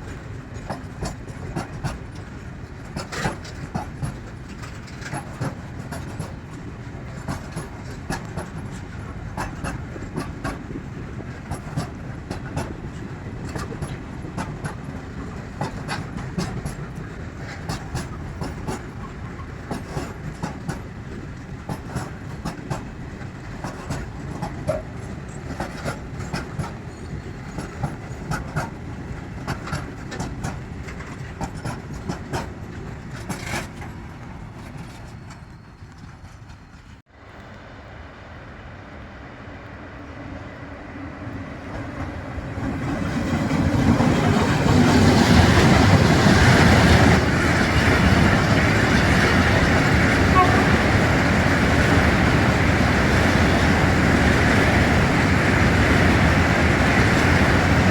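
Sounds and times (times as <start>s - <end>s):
train wheels clicking over rail joints: 0.0s - 37.0s, 41.6s - 57.9s
train rumble: 0.0s - 57.9s.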